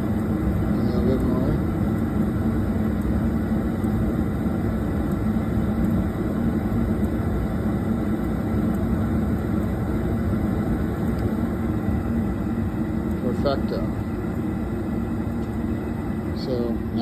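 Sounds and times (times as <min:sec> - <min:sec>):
gas furnace burner and fan: 0:00.0 - 0:17.0.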